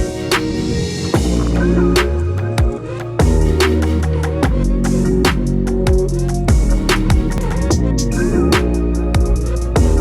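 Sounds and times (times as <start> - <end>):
electronic dance music: 1.2 - 10.0.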